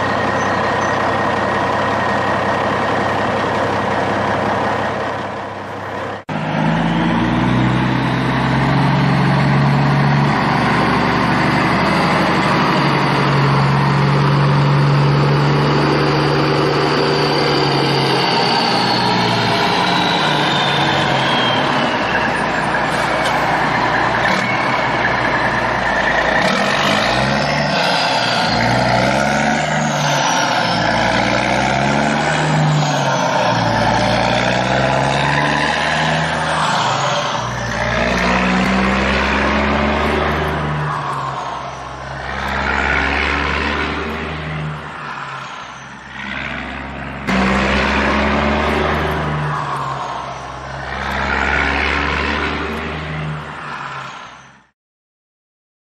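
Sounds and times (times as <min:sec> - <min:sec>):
truck engine revving: 0:00.0 - 0:54.2.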